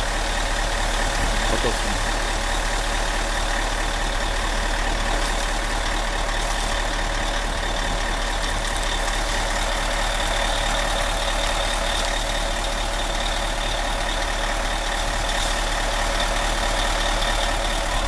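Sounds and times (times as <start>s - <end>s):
fire truck engine and pump: 0.0s - 18.0s.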